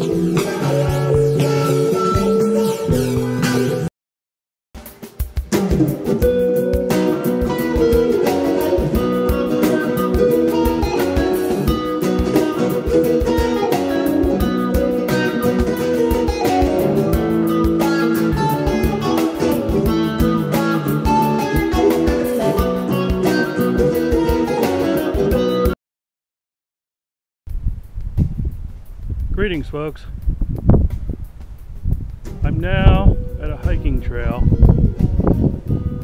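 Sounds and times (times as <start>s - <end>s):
music with steady beat: 0.0s - 3.9s, 4.8s - 25.8s, 30.7s - 36.0s.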